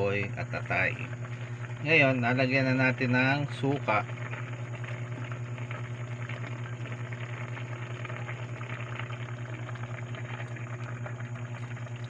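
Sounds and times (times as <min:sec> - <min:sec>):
pot simmering with crackly bubbling: 0:00.0 - 0:12.0
steady low hum: 0:00.0 - 0:12.0.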